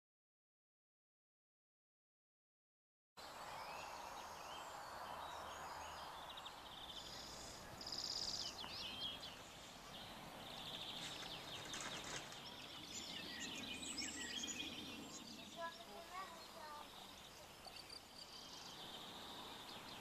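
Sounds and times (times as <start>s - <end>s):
songbirds chirping and trilling: 3.2s - 20.0s
steady background hiss: 3.2s - 20.0s.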